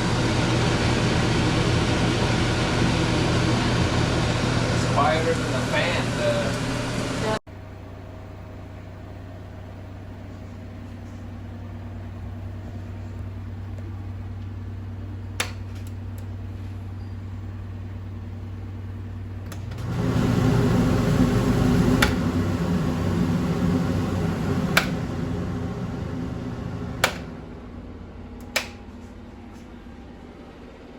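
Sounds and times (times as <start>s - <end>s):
exhaust fan humming: 0.0s - 30.9s.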